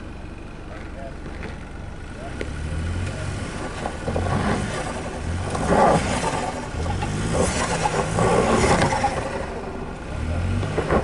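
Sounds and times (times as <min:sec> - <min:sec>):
suv engine on off-road trail: 0:00.0 - 0:11.0.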